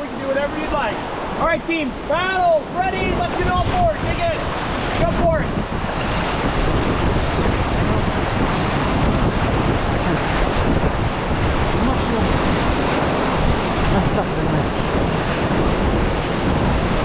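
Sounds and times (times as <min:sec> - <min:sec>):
whitewater roaring: 0:00.0 - 0:17.0
wind buffeting microphone: 0:00.0 - 0:17.0.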